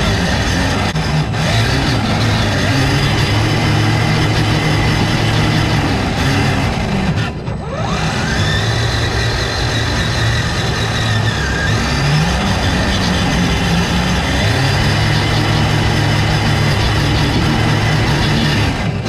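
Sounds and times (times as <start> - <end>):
rc truck motor whining: 0.0 - 19.0.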